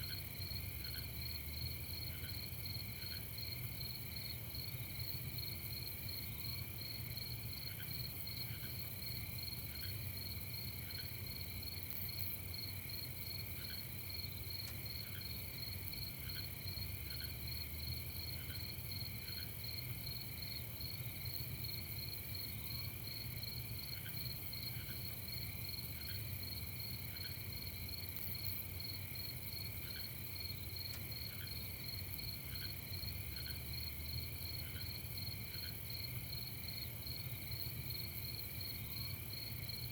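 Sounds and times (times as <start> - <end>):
crickets trilling: 0.0 - 39.9
single cricket chirps: 0.0 - 39.9.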